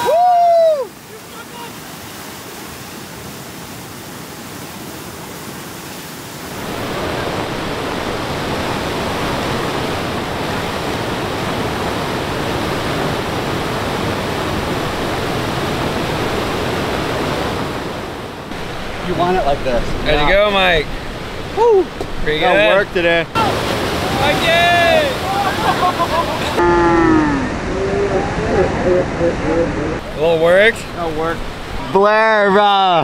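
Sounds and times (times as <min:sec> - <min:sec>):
water rushing into surf: 0:00.0 - 0:33.0.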